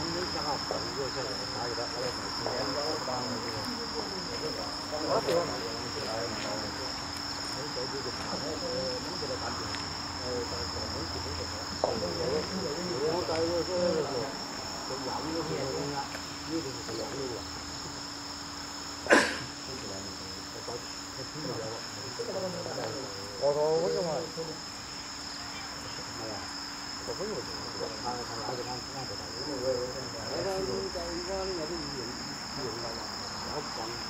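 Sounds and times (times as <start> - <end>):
insect chirring: 0.0 - 34.0.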